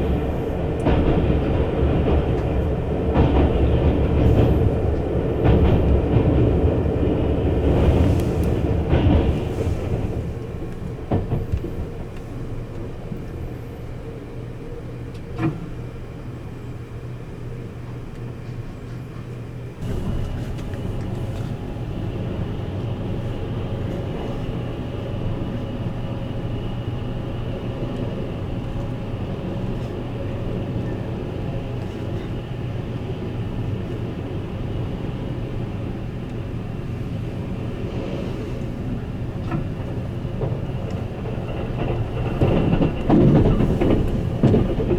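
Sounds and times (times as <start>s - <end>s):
train wheels and motors rumbling: 0.0s - 44.9s.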